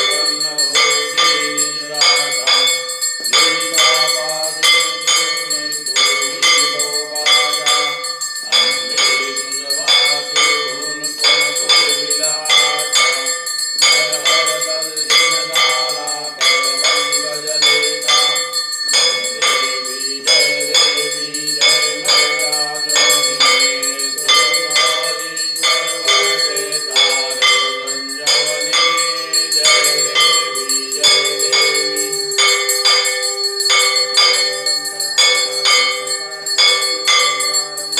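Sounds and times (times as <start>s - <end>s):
hand bell ringing rapidly: 0.0s - 37.9s.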